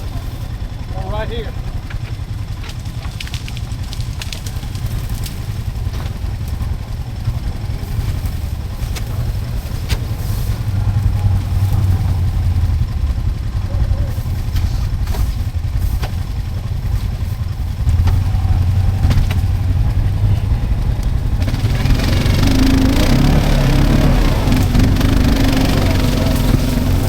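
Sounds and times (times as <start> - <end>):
atv engine idling: 0.0 - 27.0.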